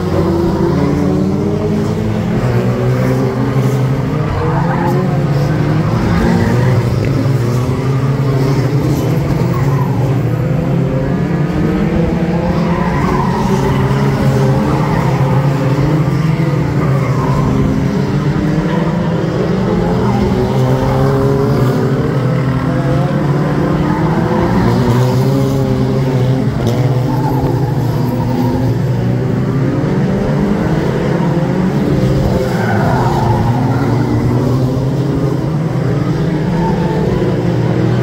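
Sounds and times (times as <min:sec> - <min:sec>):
racing car engines: 0:00.0 - 0:38.0.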